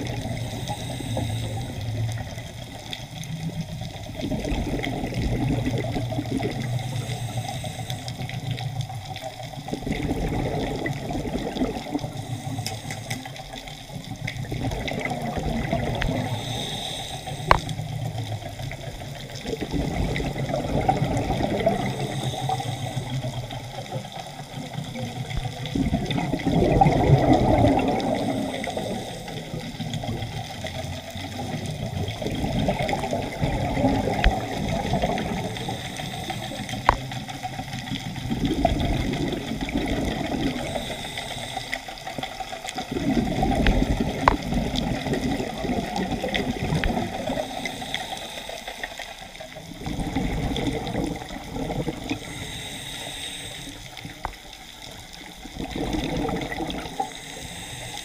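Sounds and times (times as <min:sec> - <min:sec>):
underwater exhaled bubbles: 0:00.0 - 0:58.0.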